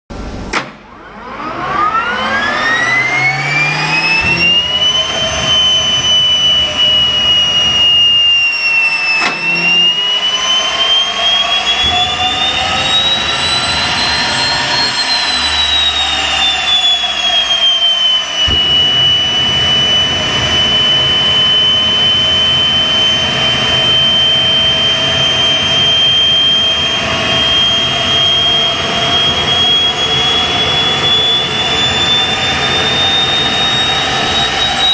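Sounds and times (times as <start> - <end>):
turbine engine whining: 0.1 - 34.9.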